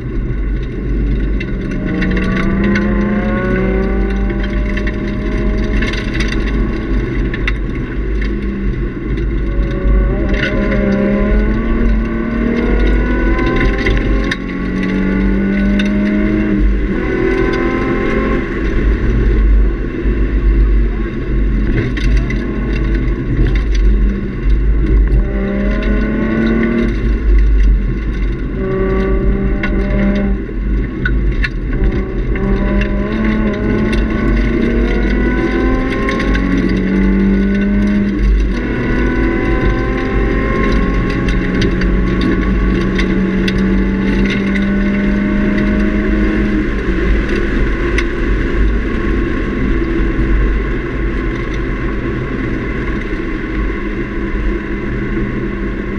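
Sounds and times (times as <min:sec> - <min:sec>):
car engine accelerating: 0:00.0 - 0:55.9
road and wind noise: 0:00.0 - 0:55.9.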